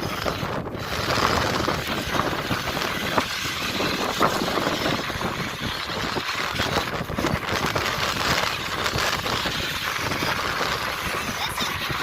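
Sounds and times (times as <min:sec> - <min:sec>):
rc trucks driving rough noise: 0:00.0 - 0:12.0.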